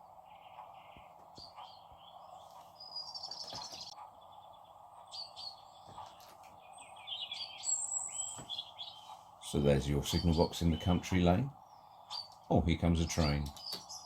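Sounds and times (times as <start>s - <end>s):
birds chirping and trilling: 0.0s - 14.0s
steady background hiss: 0.0s - 14.0s.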